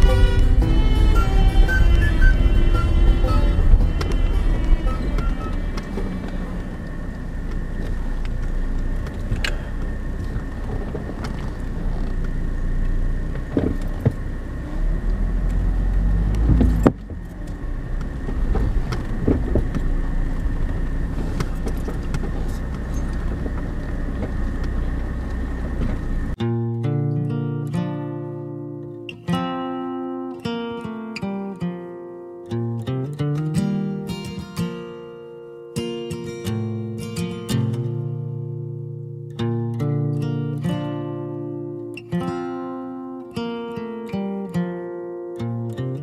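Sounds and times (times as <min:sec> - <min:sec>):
car road and engine rumble: 0:00.0 - 0:46.0.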